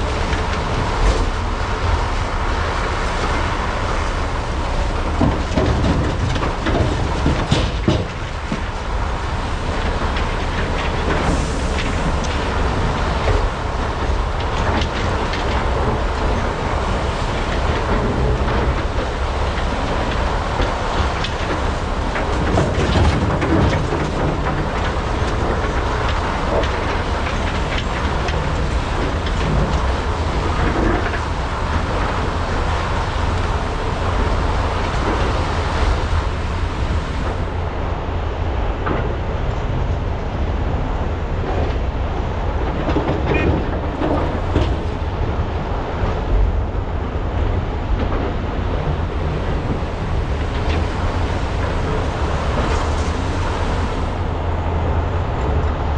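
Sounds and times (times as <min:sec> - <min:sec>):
excavator diesel engines rumbling: 0:00.0 - 0:55.9.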